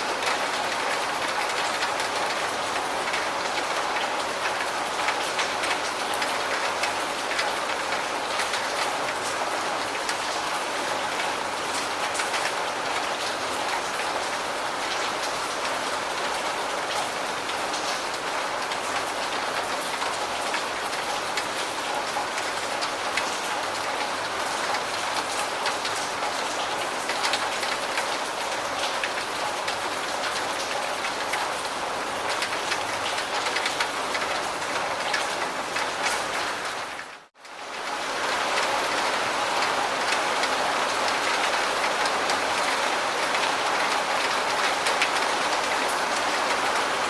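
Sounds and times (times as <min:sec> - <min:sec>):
raindrops hitting a surface: 0:00.0 - 0:47.0.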